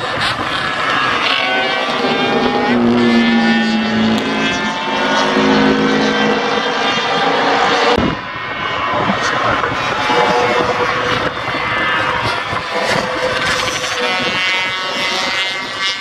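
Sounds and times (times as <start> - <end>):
racing motorcycles passing: 0.0 - 16.0.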